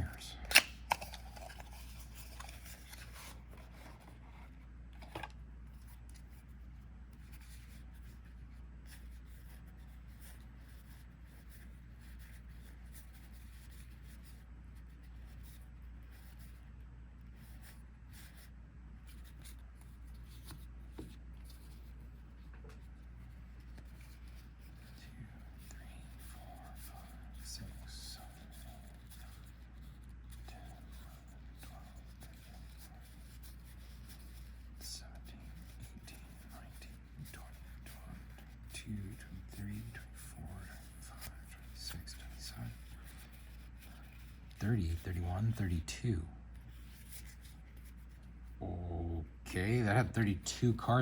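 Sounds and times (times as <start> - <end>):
trading cards sliding and rubbing: 0.0 - 16.7, 17.3 - 48.6
steady low hum: 0.0 - 51.0.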